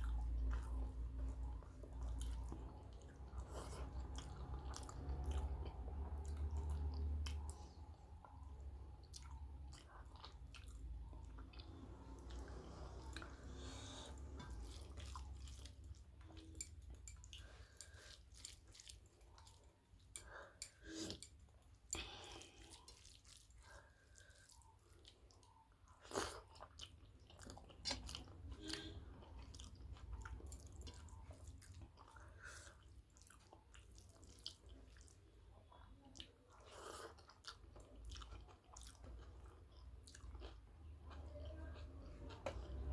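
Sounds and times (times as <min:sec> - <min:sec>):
faint low hum: 0:00.0 - 0:42.9
person chewing and smacking: 0:00.0 - 0:42.9.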